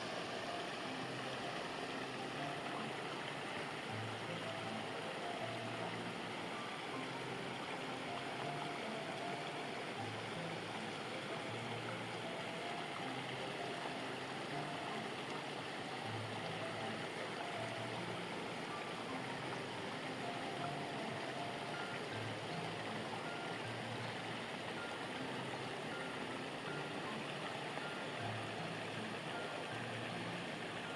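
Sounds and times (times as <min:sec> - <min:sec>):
stream flowing: 0:00.0 - 0:30.9.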